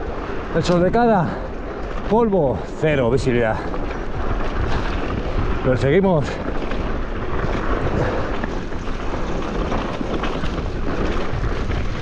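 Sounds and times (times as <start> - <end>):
bike tyres rattling over dirt: 0.0 - 12.0
wind on microphone: 1.6 - 12.0.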